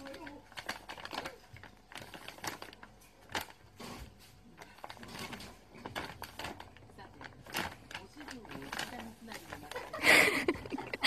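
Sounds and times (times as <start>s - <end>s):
paper bag crinkling: 0.0s - 11.0s.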